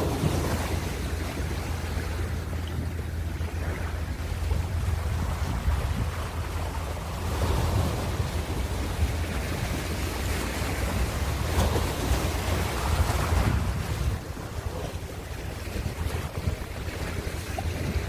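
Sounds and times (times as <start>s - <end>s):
ocean surf washing: 0.0s - 18.0s
wind on microphone: 0.0s - 18.0s.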